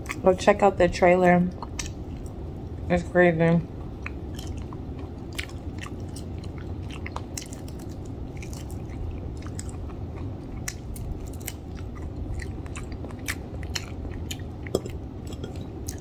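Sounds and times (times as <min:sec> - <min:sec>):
chewing crispy fried chicken: 0:00.0 - 0:02.8, 0:03.6 - 0:16.0.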